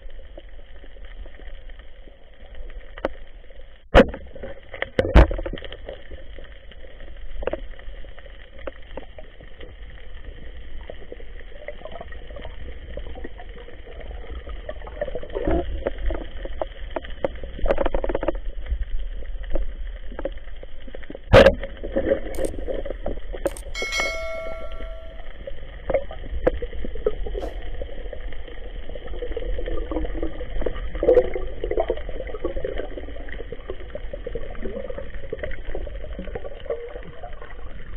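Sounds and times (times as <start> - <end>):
underwater rumble of water movement: 0.0 - 23.5, 25.3 - 37.9.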